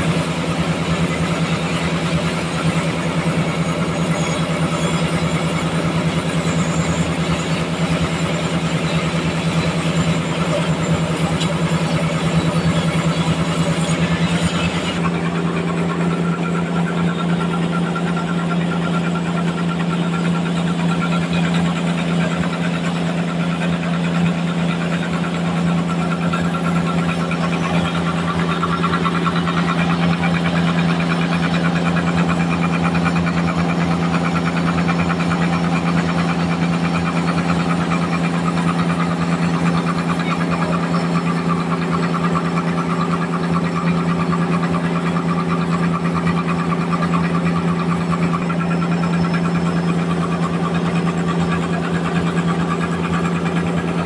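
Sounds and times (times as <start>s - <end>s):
band sawmill humming: 0.0s - 54.0s.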